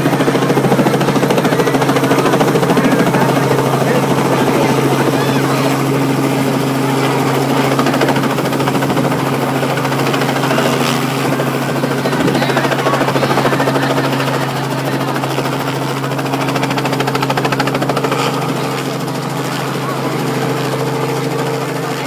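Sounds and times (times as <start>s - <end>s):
helicopter flying overhead: 0.0s - 22.0s.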